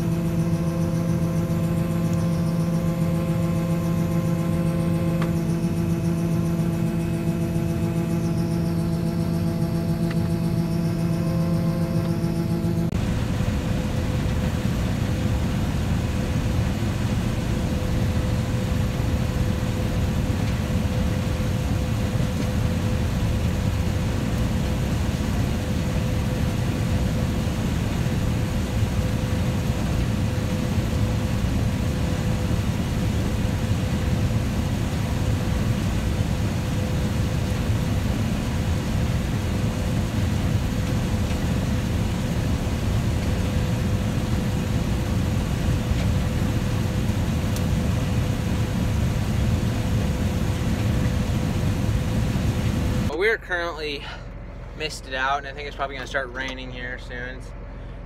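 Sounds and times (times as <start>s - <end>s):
combine harvester drone: 0.0s - 58.0s
thin steady machine whine: 0.0s - 58.0s.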